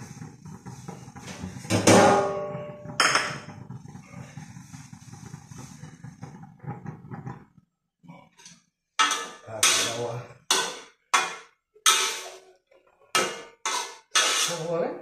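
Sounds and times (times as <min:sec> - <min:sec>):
vegetables cooking in a wok: 0:00.0 - 0:07.9, 0:08.8 - 0:15.0.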